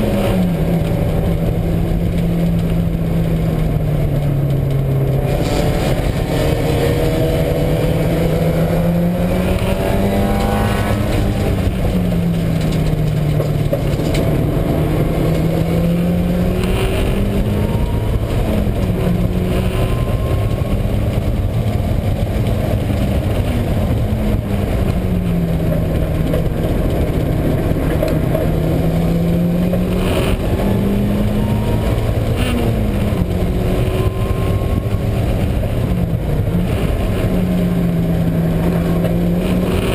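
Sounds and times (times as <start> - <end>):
car engine running hard: 0.0 - 39.9
loud road noise: 0.0 - 39.9.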